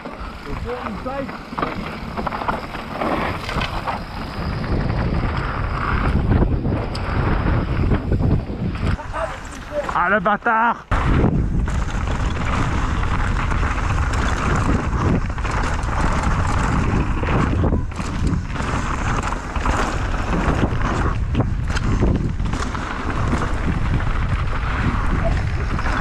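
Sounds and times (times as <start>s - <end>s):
bike rattling over ground: 0.0s - 26.0s
wind rumble on microphone: 0.0s - 26.0s.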